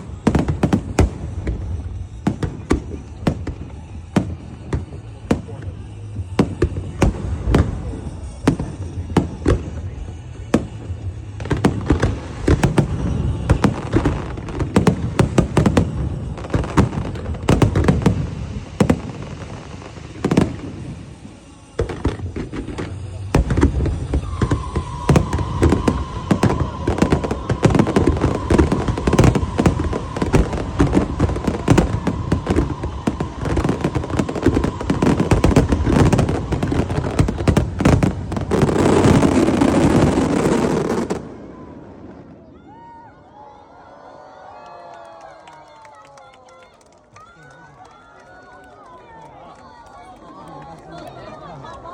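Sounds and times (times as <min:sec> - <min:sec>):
fireworks bangs and crackles: 0:00.0 - 0:43.1.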